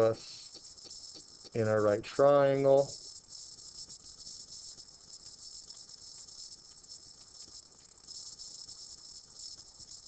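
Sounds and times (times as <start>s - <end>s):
high-pitched hiss: 0.0s - 10.0s
stylus scratching on tablet screen: 0.0s - 10.0s.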